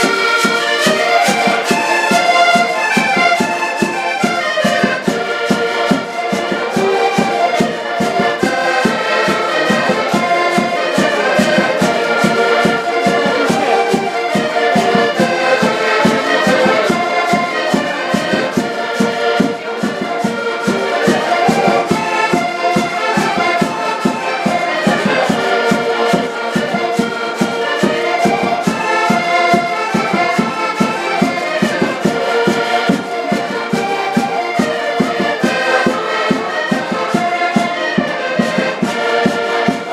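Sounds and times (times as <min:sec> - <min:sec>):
accordions playing dance tune: 0:00.0 - 0:39.9.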